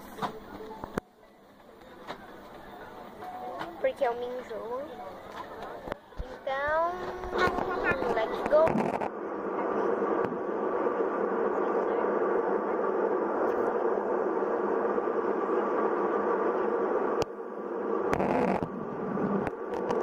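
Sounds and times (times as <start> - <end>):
airliner cabin noise: 0.0 - 20.0
faint steady hum: 0.0 - 20.0.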